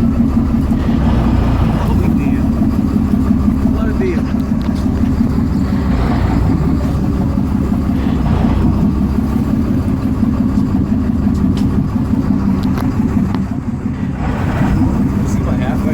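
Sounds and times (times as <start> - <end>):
boat engine idling: 0.0 - 15.9.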